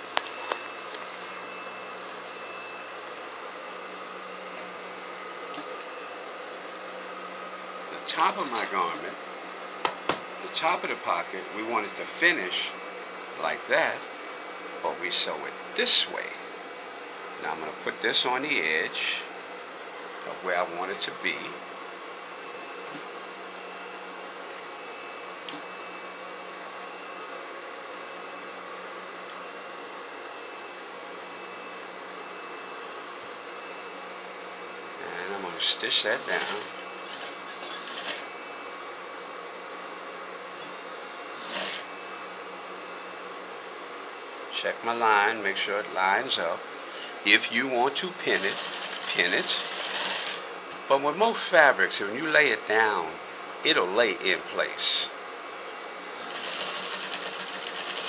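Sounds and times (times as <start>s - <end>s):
electric motor hum: 0.0s - 44.4s, 45.0s - 53.1s, 55.6s - 58.0s.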